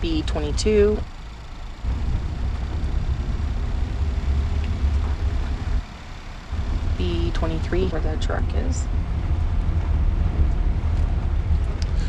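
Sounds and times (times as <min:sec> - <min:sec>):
vehicle engine and tyres rumbling: 0:00.0 - 0:12.0.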